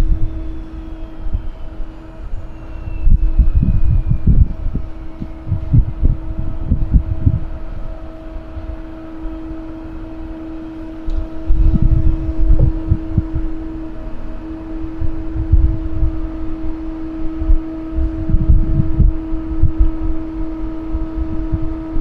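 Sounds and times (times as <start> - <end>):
steady mechanical hum: 0.0 - 22.0
wind buffeting microphone: 0.0 - 22.0.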